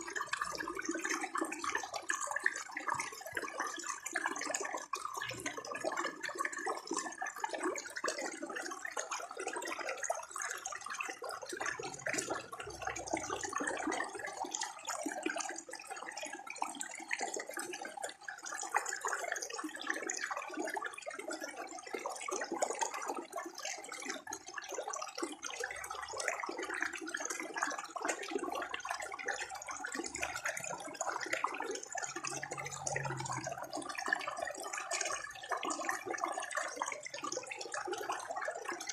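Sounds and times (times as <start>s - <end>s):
water gurgling in a stream: 0.0s - 38.9s.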